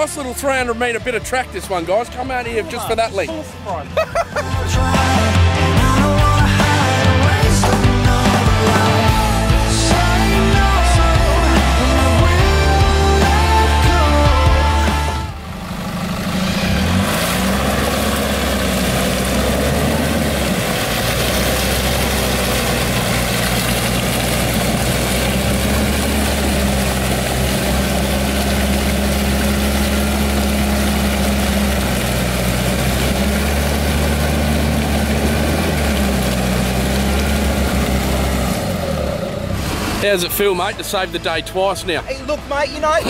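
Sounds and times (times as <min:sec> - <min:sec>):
vehicle engines running: 0:00.0 - 0:43.0
winch hauling: 0:00.0 - 0:43.0.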